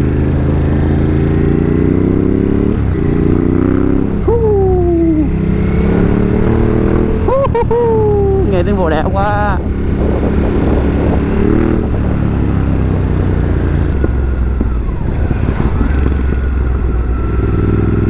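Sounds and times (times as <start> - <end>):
city traffic: 0.0 - 18.0
motorcycle engine running: 0.0 - 18.0.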